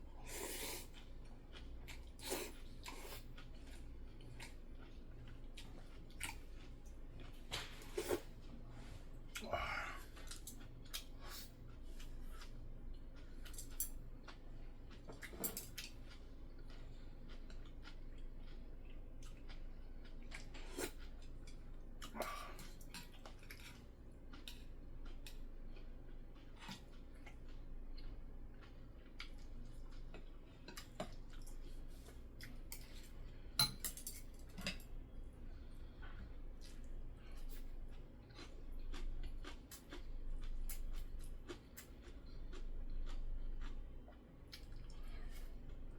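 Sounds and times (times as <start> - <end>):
person chewing: 0.2 - 45.9.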